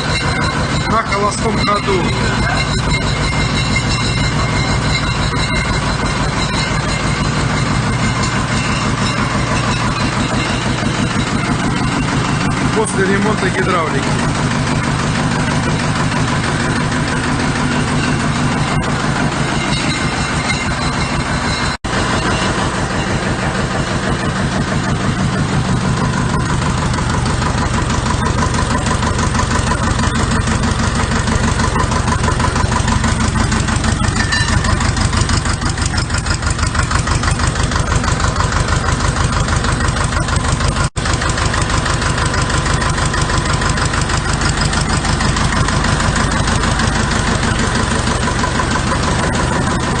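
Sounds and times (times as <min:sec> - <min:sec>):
diesel engine running steadily: 0:00.0 - 0:50.0.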